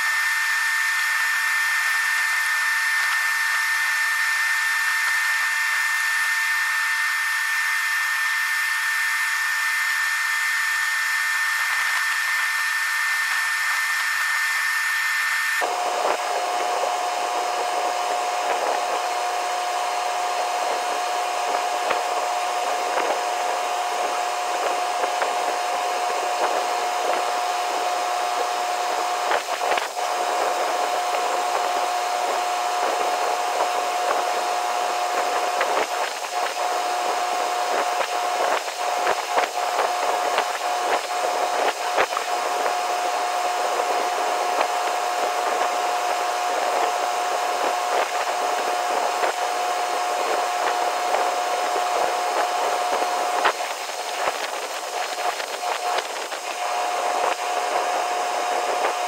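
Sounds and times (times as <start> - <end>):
machinery whirring with hum: 0.0 - 59.0.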